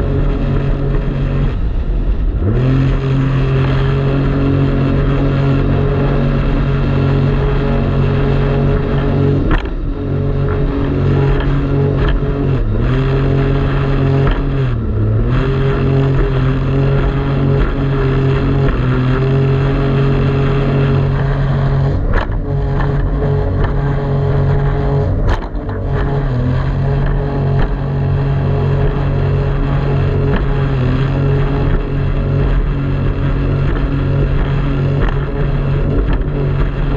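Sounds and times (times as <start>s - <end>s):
jet ski engine running: 0.0s - 36.9s.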